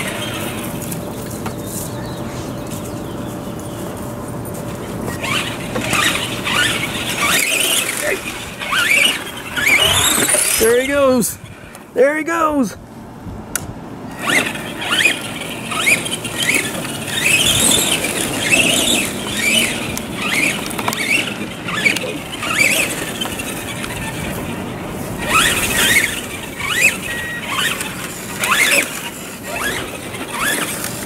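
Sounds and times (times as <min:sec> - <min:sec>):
electric motors whining: 0:00.0 - 0:12.0, 0:13.6 - 0:31.0
wheels hissing on grass: 0:00.0 - 0:12.5, 0:14.1 - 0:31.0.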